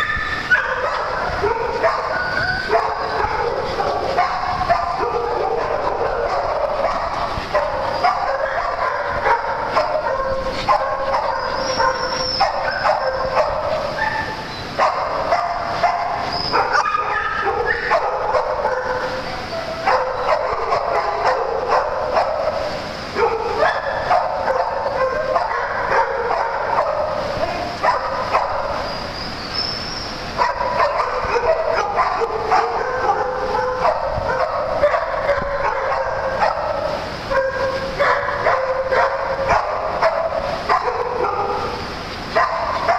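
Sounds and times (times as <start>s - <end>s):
small dogs barking and yipping: 0.0s - 42.9s.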